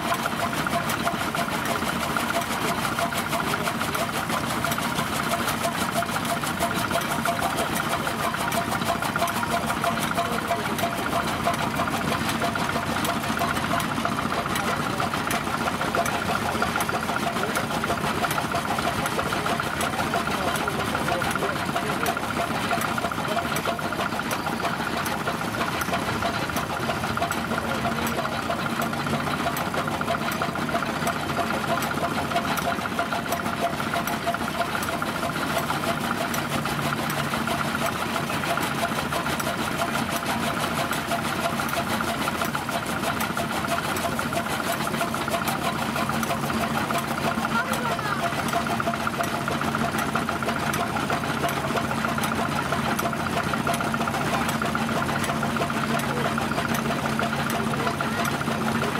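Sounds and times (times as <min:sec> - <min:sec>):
chaff cutter clattering: 0:00.0 - 0:58.9
engine running: 0:00.0 - 0:58.9
threshing machinery: 0:00.0 - 0:58.9.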